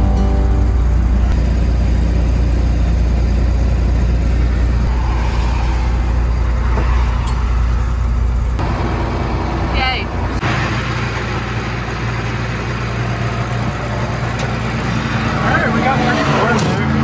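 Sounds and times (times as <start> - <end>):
road and wind noise: 0.0 - 17.0
truck engine drone: 0.0 - 17.0.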